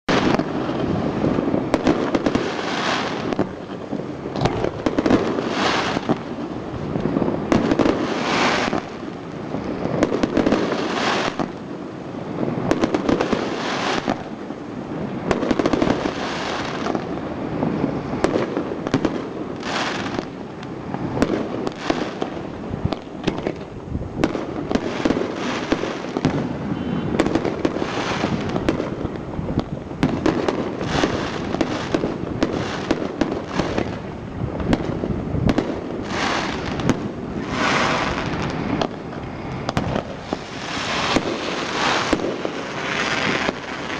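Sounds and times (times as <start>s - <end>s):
fireworks crackling: 0.0s - 43.9s
fireworks bursting: 0.1s - 43.9s.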